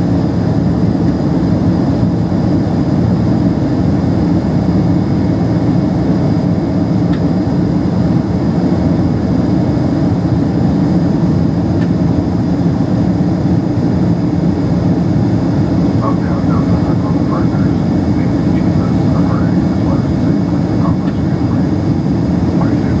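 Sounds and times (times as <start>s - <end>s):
jet engine cabin rumble: 0.0s - 23.0s.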